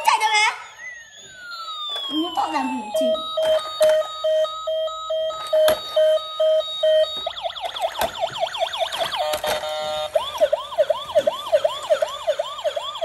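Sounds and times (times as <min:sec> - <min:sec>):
electronic beeps: 0:00.0 - 0:10.8
warbling toy siren: 0:00.0 - 0:13.0.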